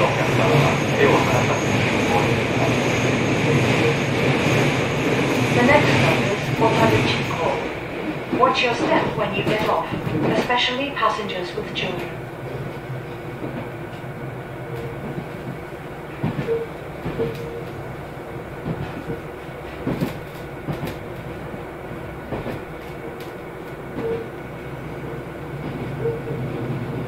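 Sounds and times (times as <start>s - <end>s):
train running noise: 0.0s - 27.0s.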